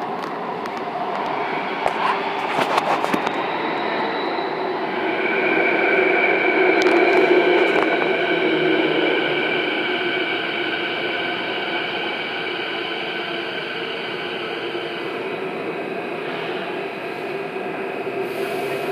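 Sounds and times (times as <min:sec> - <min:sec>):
electric train whine and rumble: 0:00.0 - 0:18.9.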